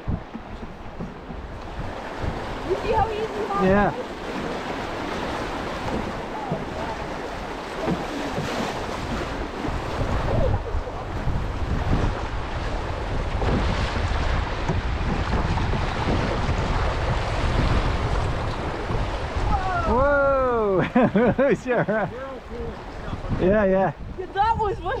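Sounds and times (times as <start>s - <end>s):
whitewater rushing and splashing: 0.0s - 25.0s
wind rumbling on microphone: 0.0s - 25.0s.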